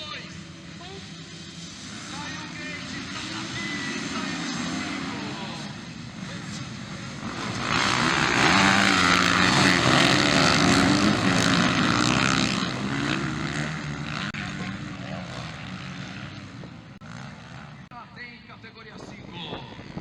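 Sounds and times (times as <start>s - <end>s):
dirt bikes racing: 0.0s - 20.0s.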